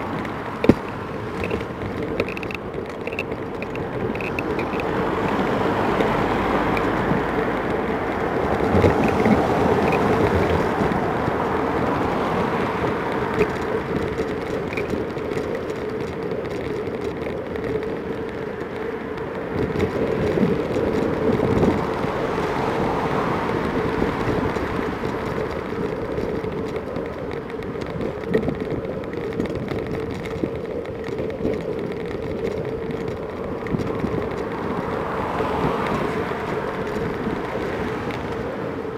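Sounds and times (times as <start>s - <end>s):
bicycle riding hum: 0.0s - 38.9s
car traffic passing: 0.0s - 38.9s
wind rushing on microphone: 0.0s - 38.9s.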